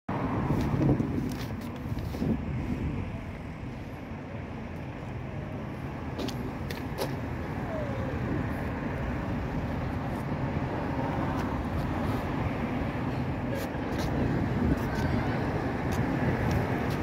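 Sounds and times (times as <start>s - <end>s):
low outdoor rumble: 0.1s - 17.0s.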